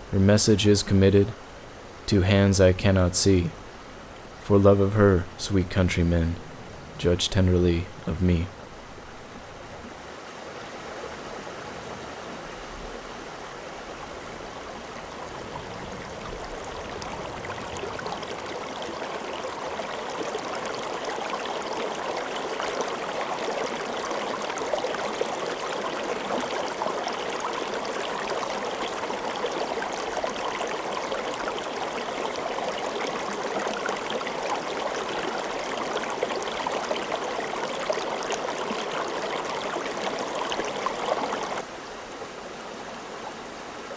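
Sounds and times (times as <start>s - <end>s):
stream flowing and splashing: 0.0s - 43.9s.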